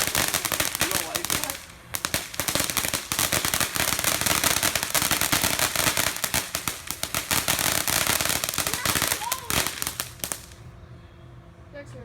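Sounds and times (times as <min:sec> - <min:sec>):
ground firework crackling: 0:00.0 - 0:10.7.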